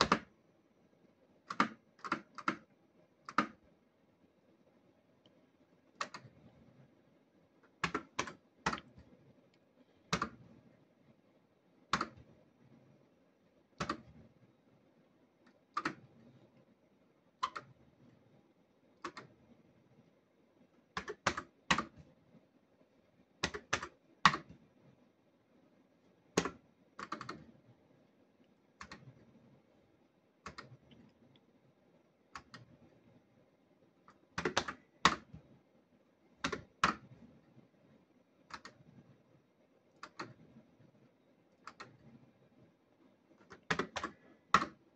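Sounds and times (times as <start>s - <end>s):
faint low hum: 0.0s - 44.9s.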